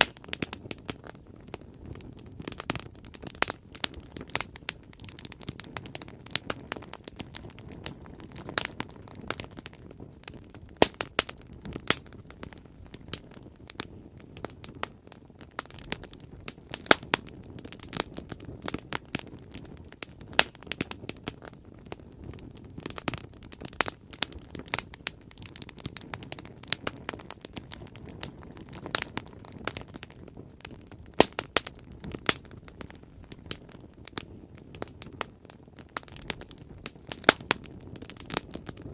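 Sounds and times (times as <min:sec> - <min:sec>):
bonfire crackling and popping: 0:00.0 - 0:38.9
low rumble of burning: 0:00.0 - 0:38.9.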